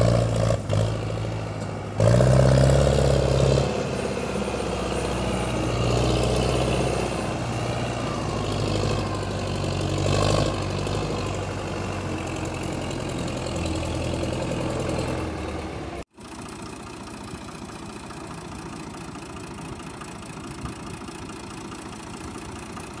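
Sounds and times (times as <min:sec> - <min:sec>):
tractor diesel engine under load: 0:00.0 - 0:23.0
tractor engine running quietly: 0:00.0 - 0:23.0.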